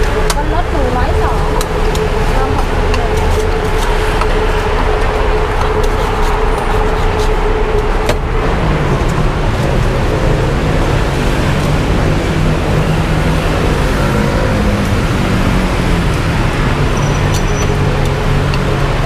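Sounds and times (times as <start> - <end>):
constant hum: 0.0 - 19.0
low hum: 0.0 - 19.0
street traffic noise: 0.0 - 19.0.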